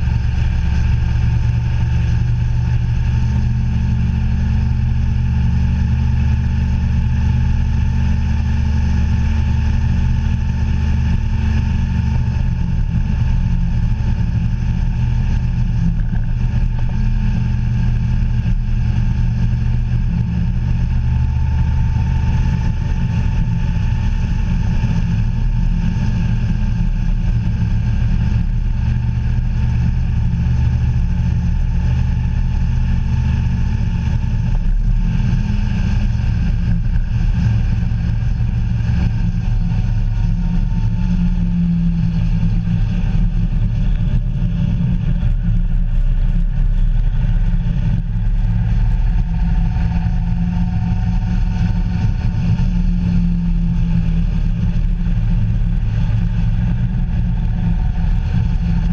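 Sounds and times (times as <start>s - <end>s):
road and wind noise: 0.0s - 58.9s
vehicle engine cruising: 0.0s - 58.9s.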